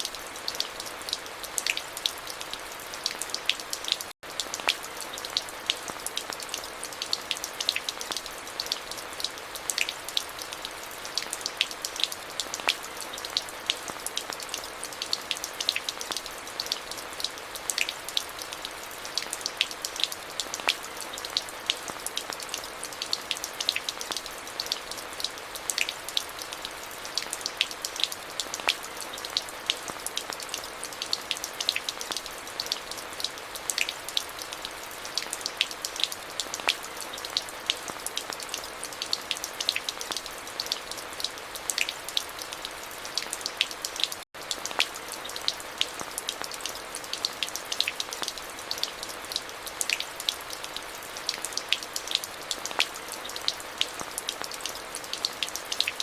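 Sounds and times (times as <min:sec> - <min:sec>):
raindrops ticking close by: 0:00.0 - 0:56.0
steady rain falling: 0:00.0 - 0:56.0.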